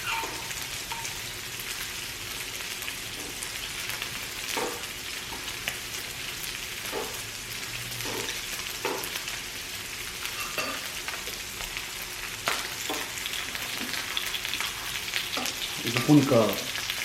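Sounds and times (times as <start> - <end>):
pork sizzling on a grill: 0.0 - 17.0.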